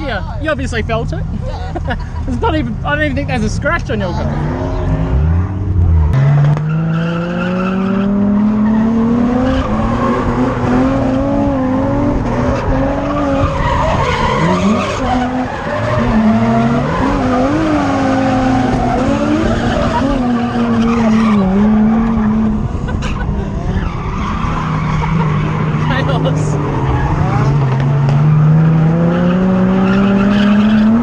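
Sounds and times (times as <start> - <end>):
car engine revving: 2.4 - 31.0.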